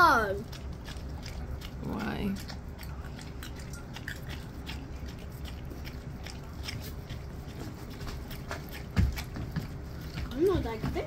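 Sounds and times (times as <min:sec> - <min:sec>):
low steady rumble: 0:00.0 - 0:11.0
chewing and biting smacks: 0:00.4 - 0:11.0.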